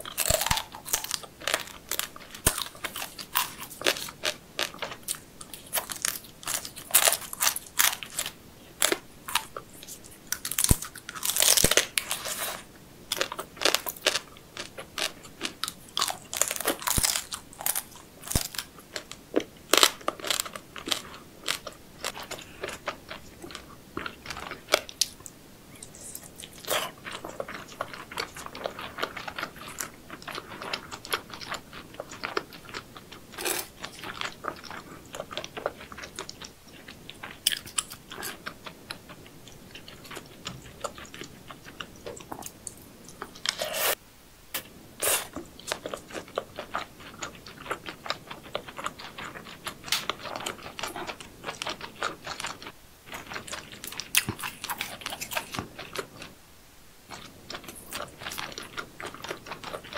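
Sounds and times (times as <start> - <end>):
chewing crunchy seafood: 0.0 - 44.0, 44.6 - 56.4, 57.1 - 59.9.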